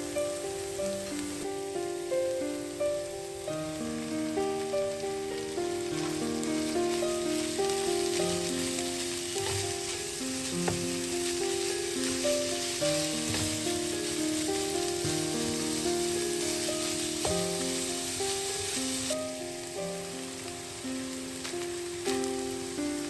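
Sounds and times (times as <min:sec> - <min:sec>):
food sizzling in a frying pan: 0:00.0 - 0:23.0
gentle piano music: 0:00.0 - 0:23.0.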